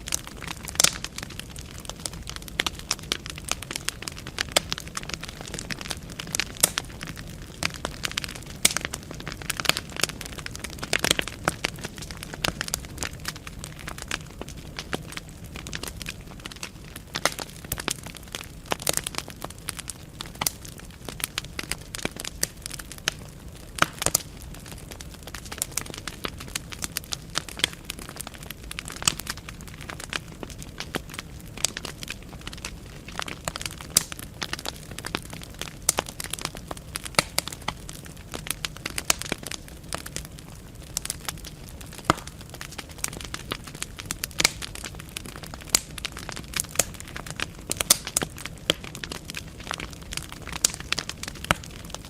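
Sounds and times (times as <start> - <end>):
logs crackling and popping: 0.0 - 52.0
low rumble of flame: 0.0 - 52.0.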